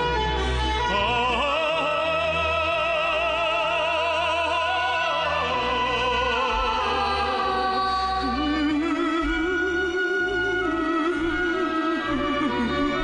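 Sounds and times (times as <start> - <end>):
song with orchestral backing: 0.0 - 13.0.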